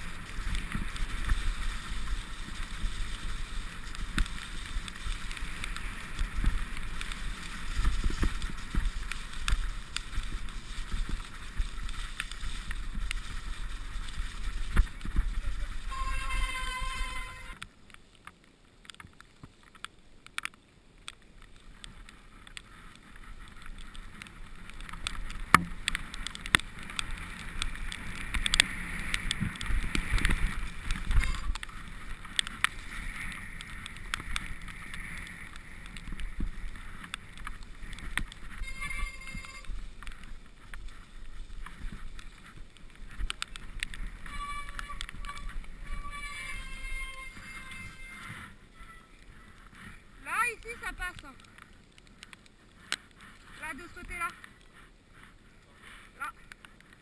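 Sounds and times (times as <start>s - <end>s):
bike tyres hissing through mud: 0.0s - 18.2s, 19.3s - 57.0s
bike knocking and rattling: 0.0s - 55.8s.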